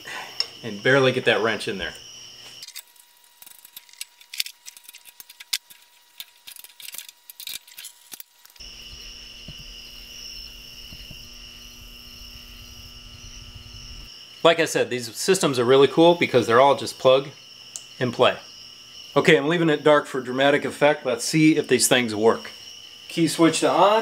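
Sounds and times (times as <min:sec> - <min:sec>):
faint hum with high whine: 0:00.0 - 0:24.0.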